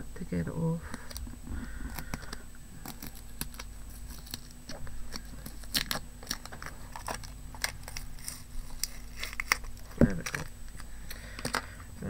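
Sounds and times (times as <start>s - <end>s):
paper wrapping crinkling: 0.9s - 11.8s.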